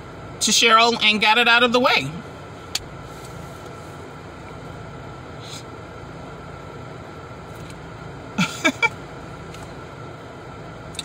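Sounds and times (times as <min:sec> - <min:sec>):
car cabin hum and hiss: 0:00.0 - 0:11.0.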